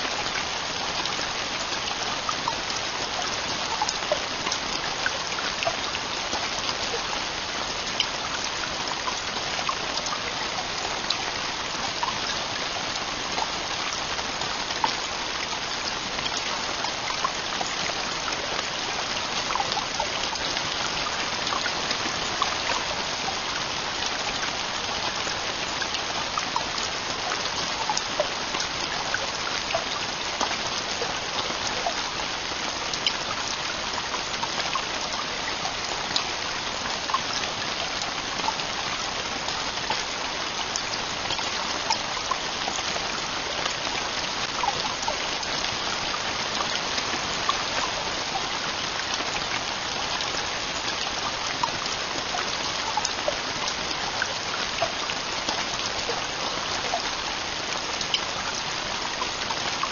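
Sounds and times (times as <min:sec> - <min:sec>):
heavy rain on a tent roof: 0:00.0 - 0:59.9.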